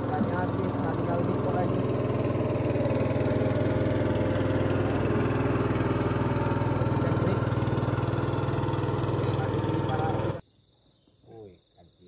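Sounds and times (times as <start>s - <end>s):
small engine idling: 0.0s - 10.4s.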